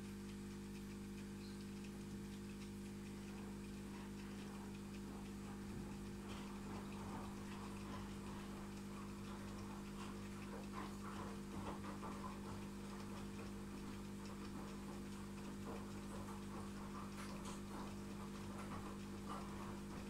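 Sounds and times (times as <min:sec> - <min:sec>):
aquarium equipment humming: 0:00.0 - 0:20.0
faint ticking: 0:00.0 - 0:20.0.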